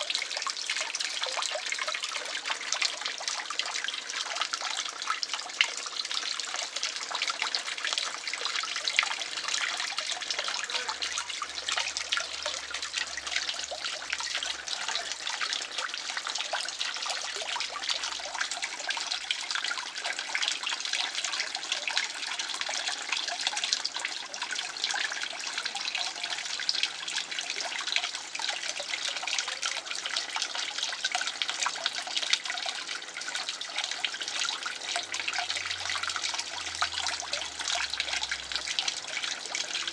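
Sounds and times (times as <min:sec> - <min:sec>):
pond water splashing and trickling: 0:00.0 - 0:39.9.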